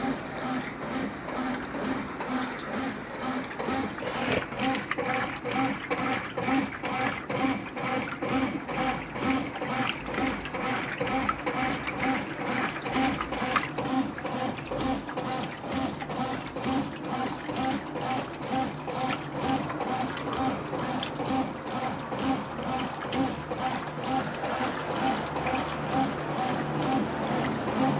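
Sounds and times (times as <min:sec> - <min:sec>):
washing machine water sloshing: 0:00.0 - 0:27.9.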